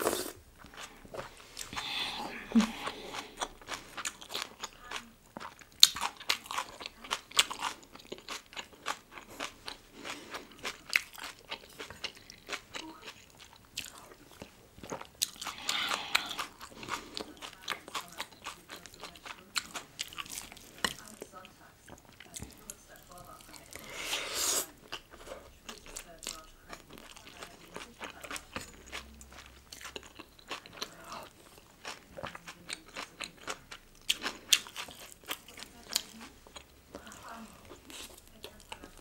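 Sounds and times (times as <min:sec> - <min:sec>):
crisp chewing and crunching: 0:00.0 - 0:39.0.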